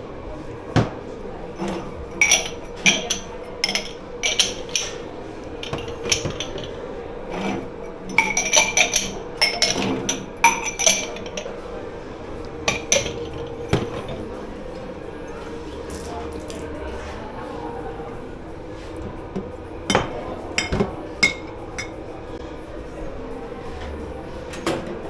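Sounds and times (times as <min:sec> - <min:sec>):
crockery and cutlery clattering: 0:00.8 - 0:16.9, 0:17.6 - 0:22.4.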